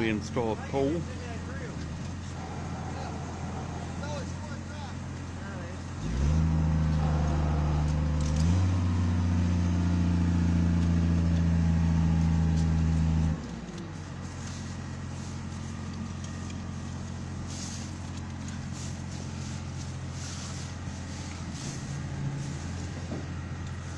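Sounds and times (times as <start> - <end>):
truck engine running: 0.0 - 23.9.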